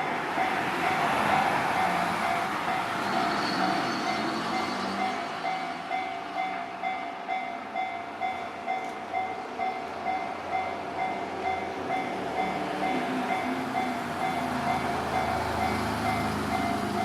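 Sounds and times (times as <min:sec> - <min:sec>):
railway crossing bell ringing: 0:00.0 - 0:17.0
train rumbling: 0:00.0 - 0:17.0.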